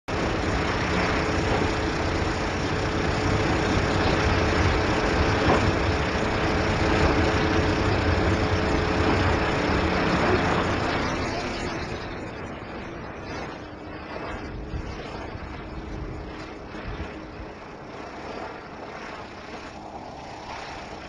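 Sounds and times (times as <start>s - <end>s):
engine whining: 0.0s - 21.0s
rush of wind and water: 0.1s - 21.0s.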